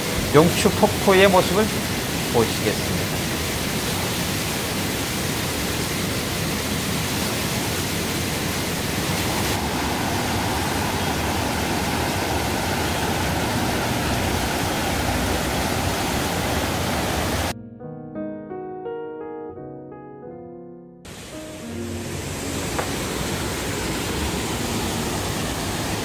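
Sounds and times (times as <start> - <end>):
stream water rushing over rock: 0.0 - 17.5, 21.1 - 26.0.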